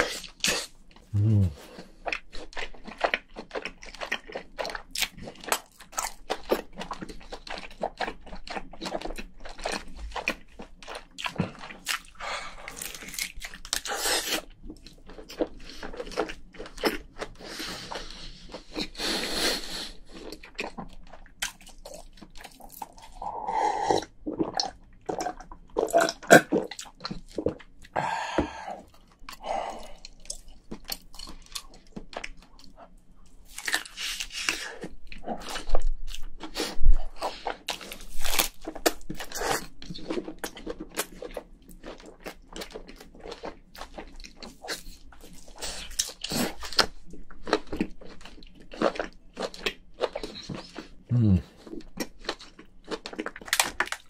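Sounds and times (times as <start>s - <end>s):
wet chewing and mouth smacks: 1.7s - 19.0s, 20.1s - 23.2s, 24.0s - 28.0s, 28.8s - 54.0s.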